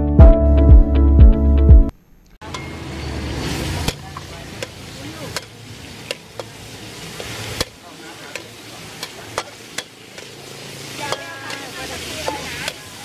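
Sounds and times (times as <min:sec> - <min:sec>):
oil sizzling in a wok: 0:02.4 - 0:13.0
metal spatula scraping a wok: 0:02.5 - 0:13.0.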